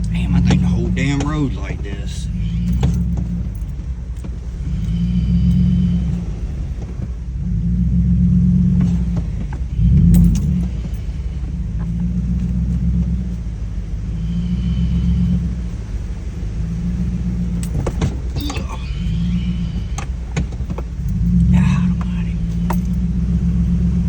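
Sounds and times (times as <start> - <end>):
engine and tyres rumbling: 0.0 - 24.0.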